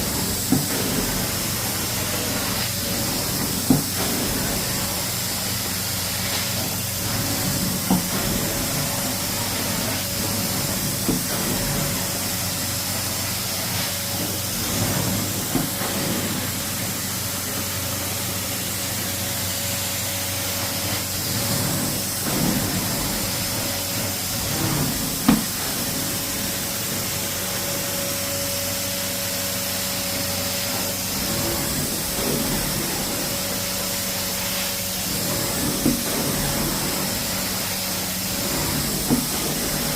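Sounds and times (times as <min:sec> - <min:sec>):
carpet cleaning machine running: 0:00.0 - 0:39.9.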